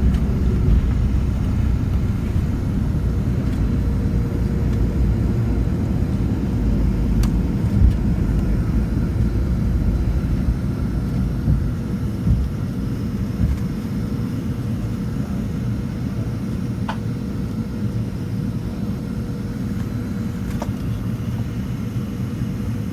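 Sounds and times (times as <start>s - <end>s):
faint constant hum: 0.0s - 22.9s
jet engines rumbling: 0.0s - 22.9s.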